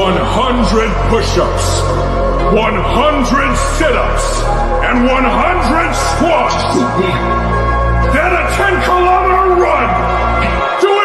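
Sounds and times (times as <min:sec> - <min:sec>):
heavy bass: 0:00.0 - 0:10.6.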